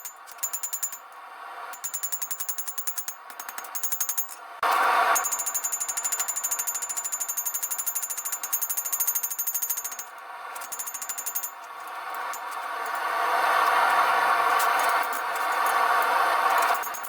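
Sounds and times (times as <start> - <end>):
power hammer hammering steel: 0.0 - 17.0.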